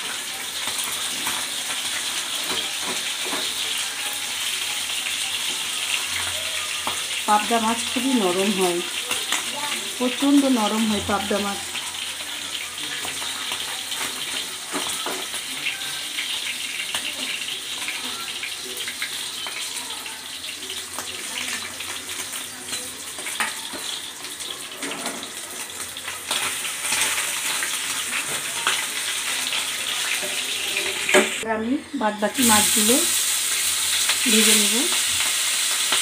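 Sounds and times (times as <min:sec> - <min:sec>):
fish frying in oil: 0:00.0 - 0:31.5, 0:32.2 - 0:36.0.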